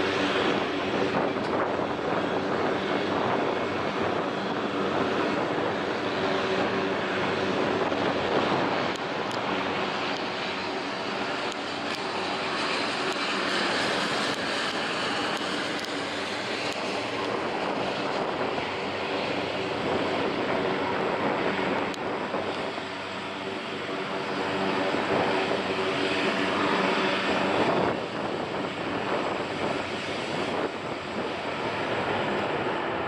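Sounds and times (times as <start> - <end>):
jet engine rush with whine: 0.0 - 33.0.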